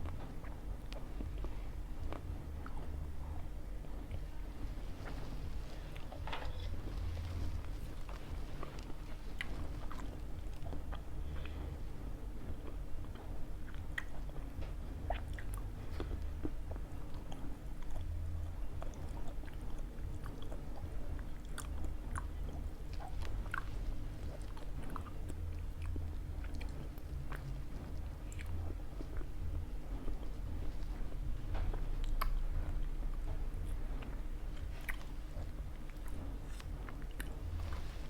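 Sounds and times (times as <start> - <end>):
chewing and biting pizza: 0.0 - 38.0
steady low hum: 0.0 - 38.0.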